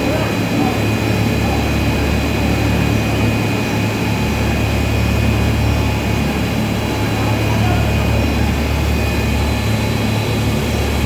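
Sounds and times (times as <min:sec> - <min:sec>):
faint high machine whines: 0:00.0 - 0:11.0.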